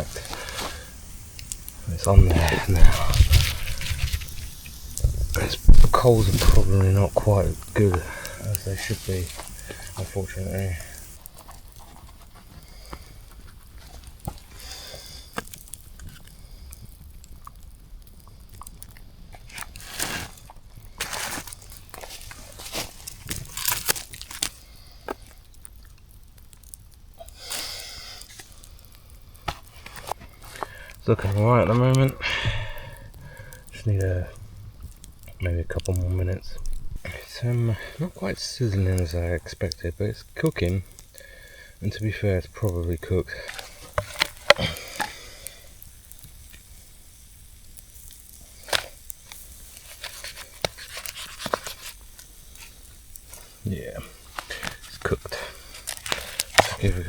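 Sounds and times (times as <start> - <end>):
campfire crackling: 0.0 - 57.0
fire hissing: 0.0 - 57.0
steak sizzling on a grill: 0.0 - 57.0.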